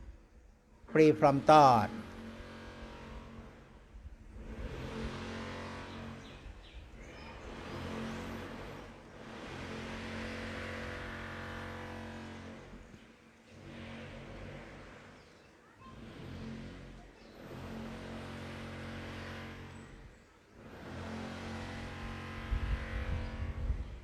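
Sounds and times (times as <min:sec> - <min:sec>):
vehicle engines passing: 0:00.9 - 0:24.0.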